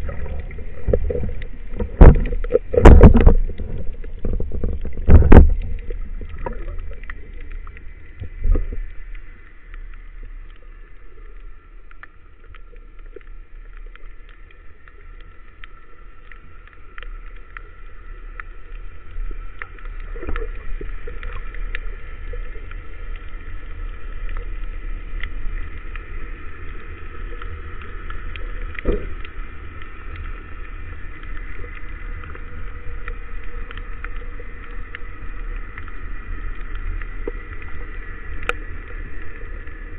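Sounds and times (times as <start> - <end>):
faint underwater clicks and crackles: 0.0 - 39.9
underwater rumble of moving water: 0.0 - 39.9.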